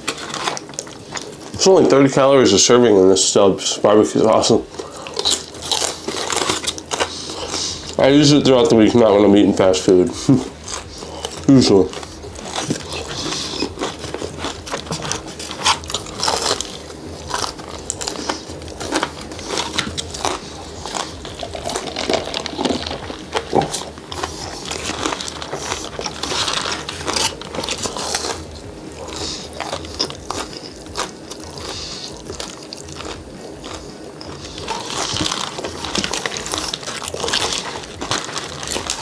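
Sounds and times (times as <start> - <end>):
biting and chewing fried food: 0.0 - 39.0.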